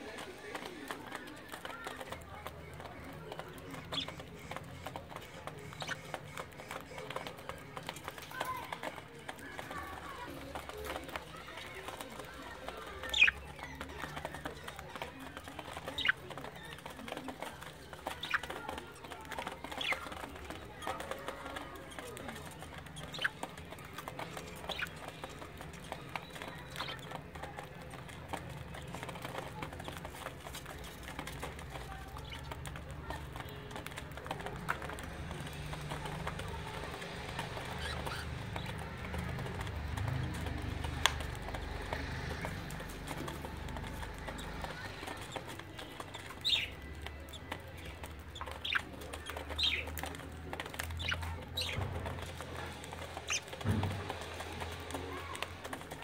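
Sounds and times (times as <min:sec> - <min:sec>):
budgies chirping: 0:00.0 - 0:56.0
faint scratching clicks: 0:00.0 - 0:56.0.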